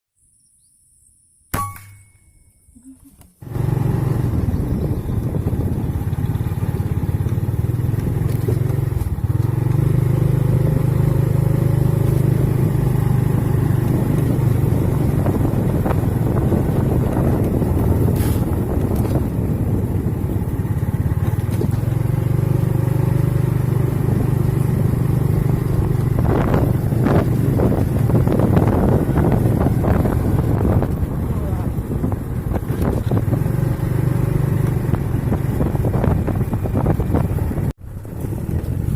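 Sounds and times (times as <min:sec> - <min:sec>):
engine running: 0:03.4 - 0:38.9.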